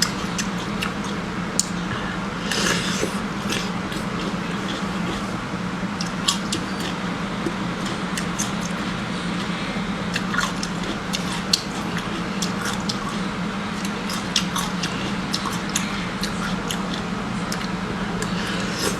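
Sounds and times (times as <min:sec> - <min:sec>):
wet chewing and biting: 0:00.0 - 0:01.8, 0:02.4 - 0:18.9
low steady hum: 0:00.0 - 0:18.9.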